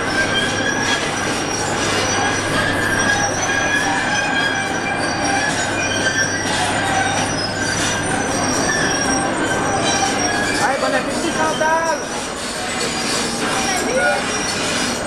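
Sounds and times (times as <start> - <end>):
metal squealing and screeching: 0.0 - 15.0.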